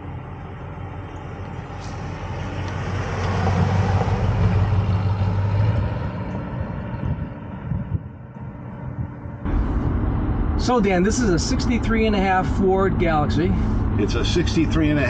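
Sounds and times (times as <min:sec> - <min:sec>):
car engine and tyres passing by: 0:00.0 - 0:15.0.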